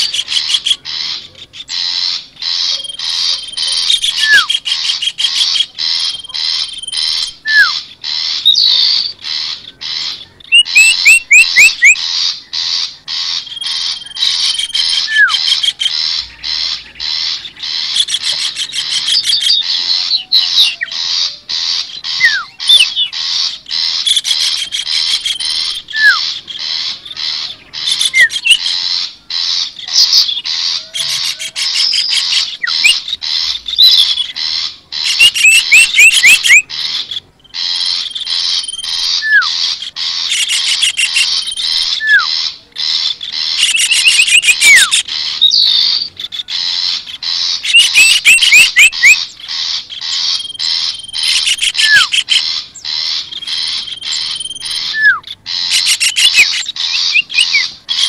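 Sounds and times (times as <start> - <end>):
high thin bird trills: 0.0 - 58.0
songbirds harsh alarm chattering: 0.0 - 58.0.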